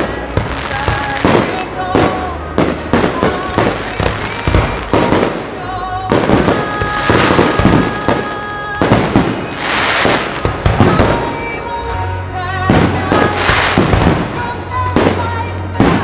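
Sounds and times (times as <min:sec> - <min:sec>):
fireworks bangs and crackles: 0:00.0 - 0:11.6, 0:12.7 - 0:16.0
music over sound system: 0:00.0 - 0:16.0.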